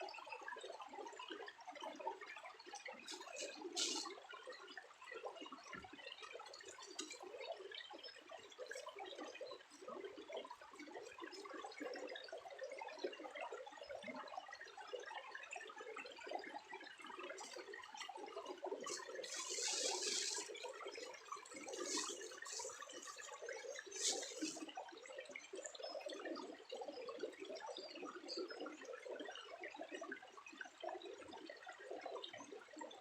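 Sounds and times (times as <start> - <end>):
water trickling and dripping: 0.1 - 33.0.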